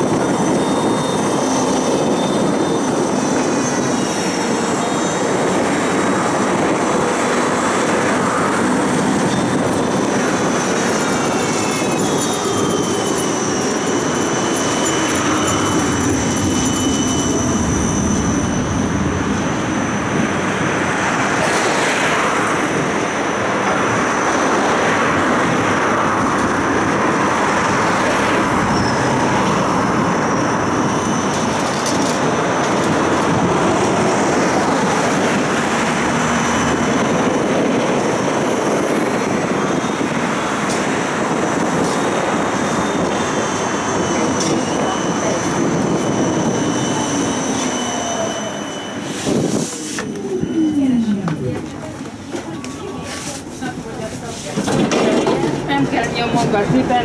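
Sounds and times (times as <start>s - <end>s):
tram wheels rolling on rails: 0.0s - 57.0s.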